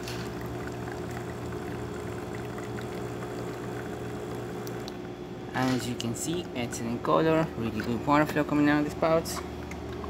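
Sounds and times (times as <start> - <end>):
espresso pouring: 0.0 - 5.1, 5.8 - 10.0
espresso machine pump humming: 0.0 - 10.0.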